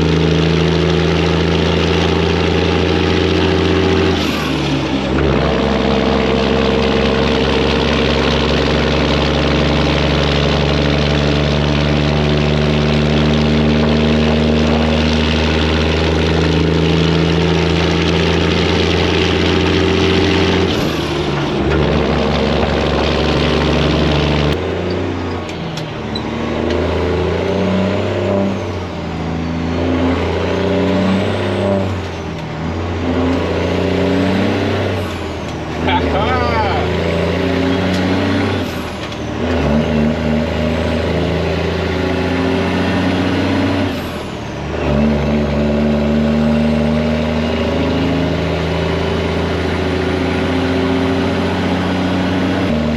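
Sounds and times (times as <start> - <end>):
truck diesel engine droning: 0.0 - 52.9.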